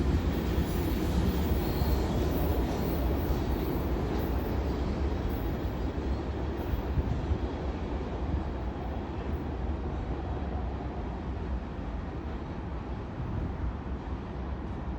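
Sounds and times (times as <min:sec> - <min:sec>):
freight train wheels rumbling: 0:00.0 - 0:14.9.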